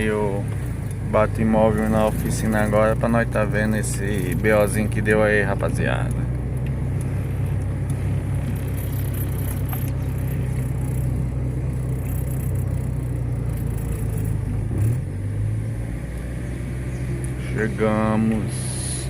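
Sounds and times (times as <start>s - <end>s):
car engine and road hum: 0.0s - 19.0s.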